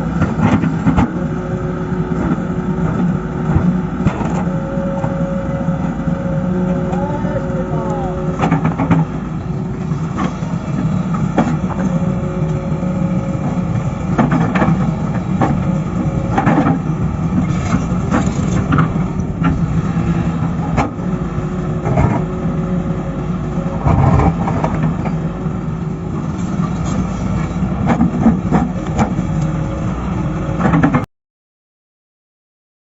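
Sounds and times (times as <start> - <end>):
diesel engine under load: 0.0 - 31.1.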